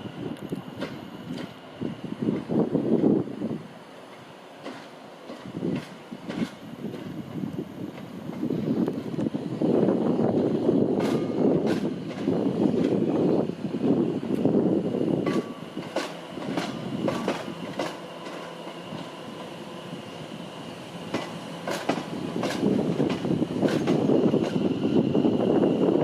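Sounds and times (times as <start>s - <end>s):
train rolling rumble: 0.0s - 26.0s
train wheels clicking over rail joints: 0.4s - 3.1s, 4.1s - 25.9s.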